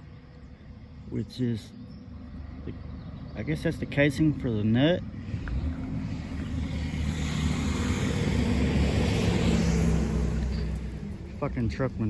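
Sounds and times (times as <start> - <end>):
tyre and road noise: 2.2 - 12.0
truck engine running: 2.3 - 12.0.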